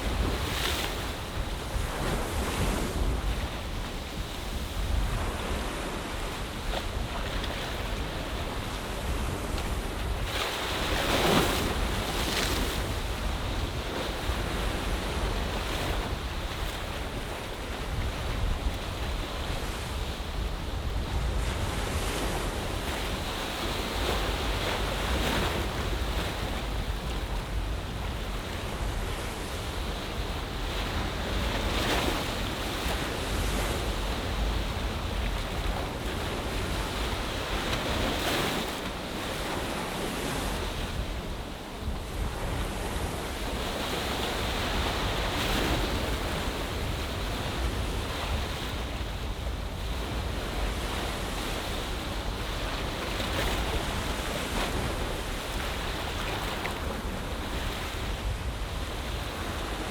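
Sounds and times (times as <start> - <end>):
ocean waves washing ashore: 0.0 - 59.9
wind rumbling on microphone: 0.0 - 59.9.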